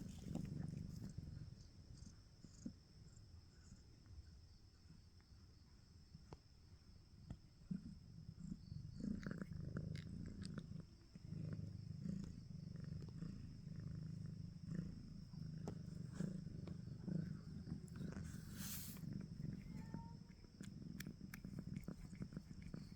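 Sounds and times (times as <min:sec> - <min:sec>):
cat purring: 0:00.0 - 0:03.9, 0:07.2 - 0:22.9.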